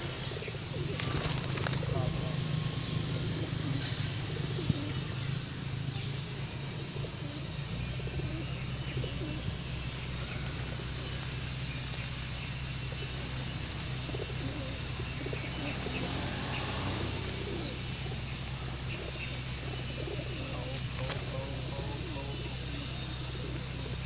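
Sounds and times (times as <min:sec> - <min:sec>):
pigeons cooing: 0:00.0 - 0:24.0
steady low hum: 0:00.0 - 0:24.0.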